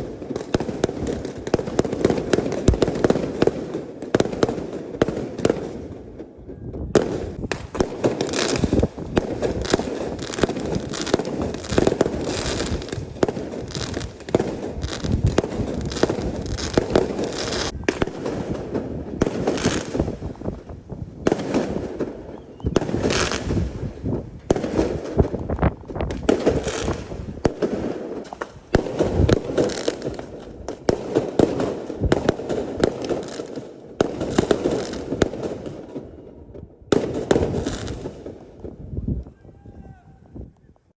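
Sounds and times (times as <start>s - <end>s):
fireworks bangs and pops: 0.0s - 39.3s
fireworks crackling: 0.0s - 39.4s.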